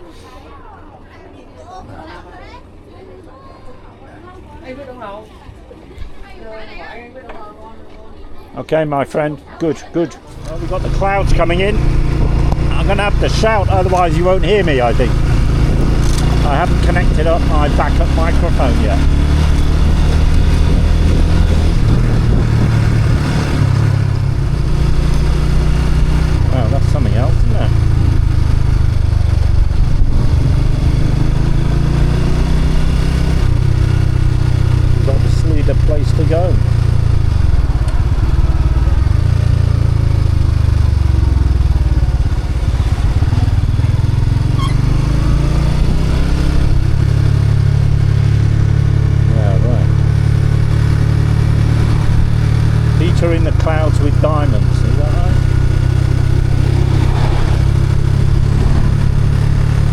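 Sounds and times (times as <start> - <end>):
motorbike engine running loudly: 10.4 - 59.9.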